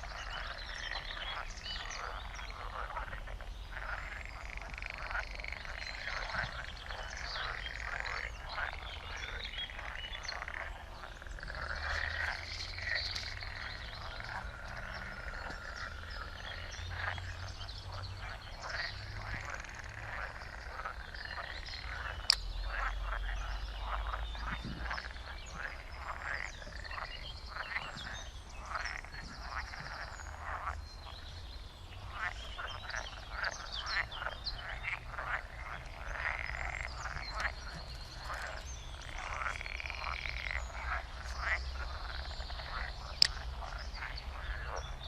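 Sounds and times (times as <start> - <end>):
frogs croaking: 0.0 - 45.0.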